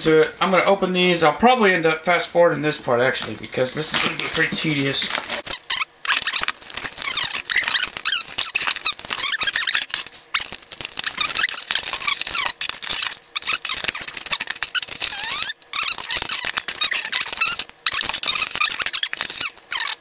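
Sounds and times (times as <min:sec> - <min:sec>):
plastic packaging squeaking and crackling: 0:03.0 - 0:20.0.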